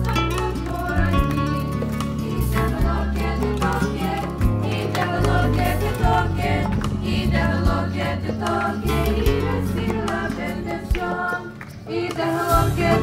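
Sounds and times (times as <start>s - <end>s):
choir singing over speaker: 0.0s - 13.0s
instrumental accompaniment: 0.0s - 13.0s.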